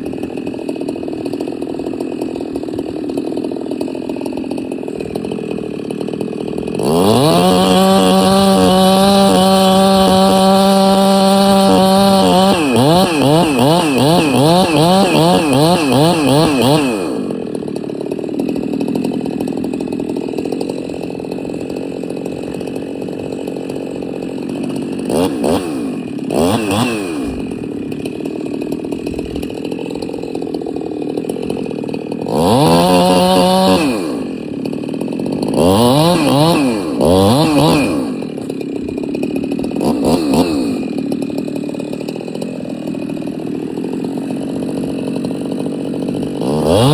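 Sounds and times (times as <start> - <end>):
chainsaw cutting wood: 0.0 - 46.9
chainsaw idling and revving: 0.0 - 46.9.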